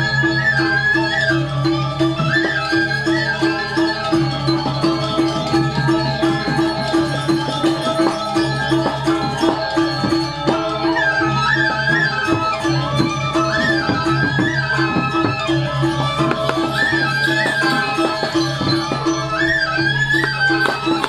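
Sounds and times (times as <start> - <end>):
gamelan metallophones ringing: 0.0 - 21.0
high wavering melody: 0.0 - 21.0
drum strokes: 2.1 - 21.0.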